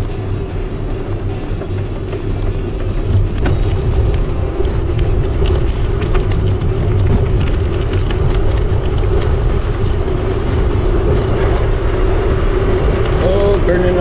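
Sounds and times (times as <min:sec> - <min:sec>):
steady hum: 0:00.0 - 0:14.0
wind buffeting microphone: 0:00.0 - 0:14.0.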